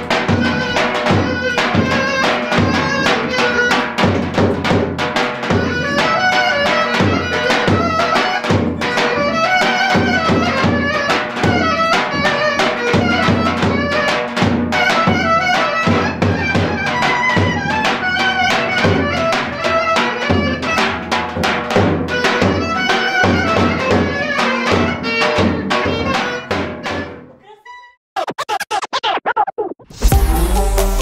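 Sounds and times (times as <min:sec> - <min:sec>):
drum beating fast rhythm: 0:00.0 - 0:27.1, 0:28.2 - 0:31.0
clarinet playing dance tune: 0:00.0 - 0:29.4.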